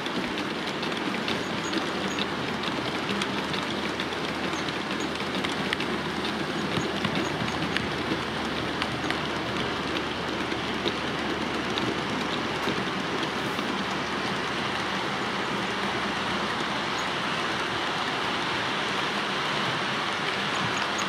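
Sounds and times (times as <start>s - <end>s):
clicks from rail joints: 0.0s - 21.0s
model train wheels rolling on track: 0.0s - 21.0s.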